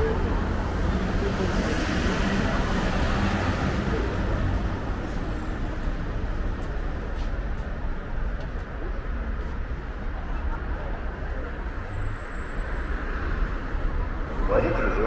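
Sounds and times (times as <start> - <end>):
passing vehicles: 0.0 - 15.0.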